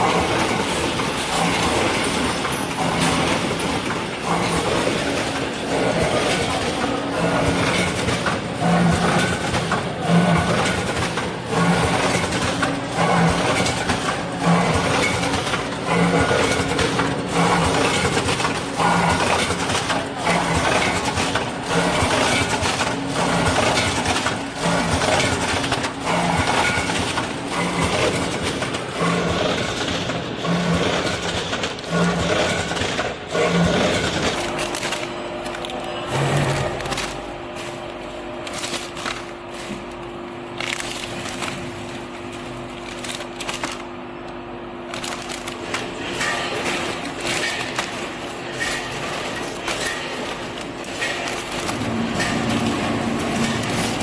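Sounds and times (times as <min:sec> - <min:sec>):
packing machine running: 0:00.0 - 0:54.0.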